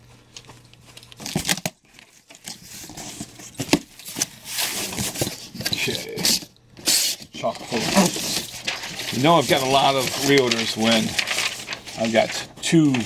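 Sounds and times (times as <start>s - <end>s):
rustling: 0.0s - 13.0s
tearing cardboard or tape: 2.5s - 13.0s.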